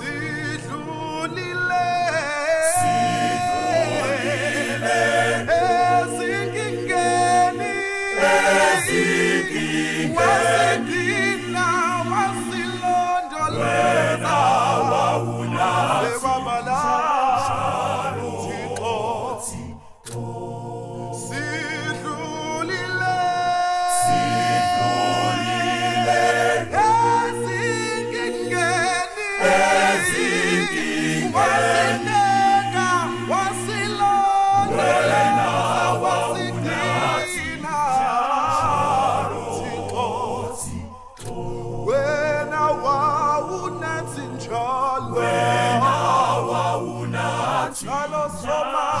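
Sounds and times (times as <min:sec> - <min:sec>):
men singing in harmony: 0:00.0 - 0:49.0.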